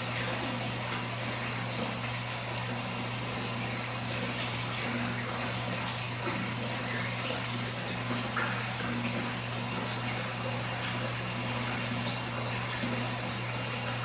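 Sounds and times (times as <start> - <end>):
water running into a tub: 0.0 - 14.0.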